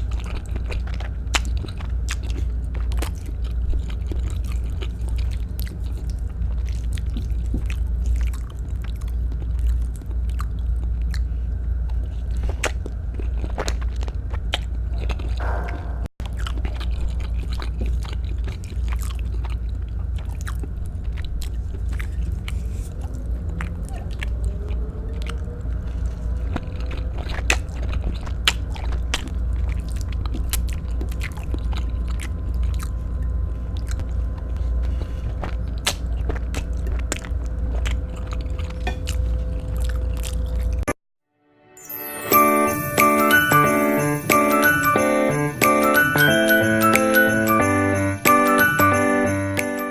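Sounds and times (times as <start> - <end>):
chewing and mouth clicks: 0.0 - 15.7, 16.3 - 40.9
steady low hum: 0.0 - 40.9.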